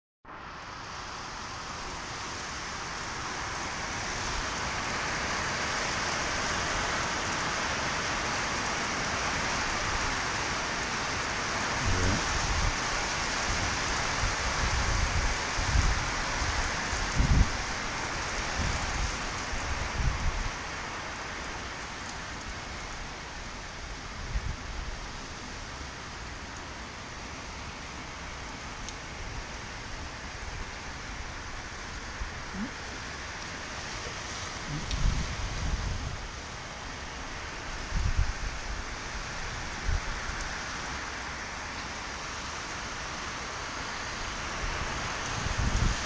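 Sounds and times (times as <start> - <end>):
heavy rain hissing: 0.3 - 46.0.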